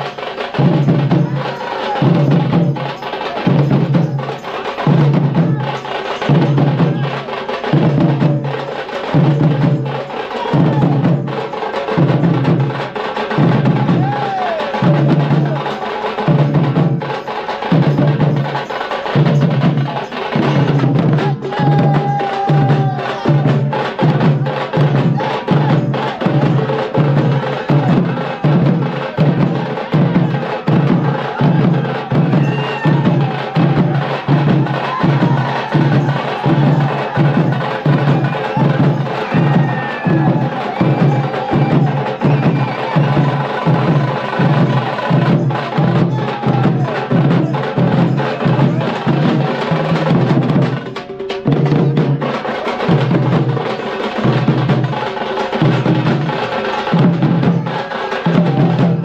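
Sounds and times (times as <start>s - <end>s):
folk drum ensemble beating: 0.0s - 59.0s.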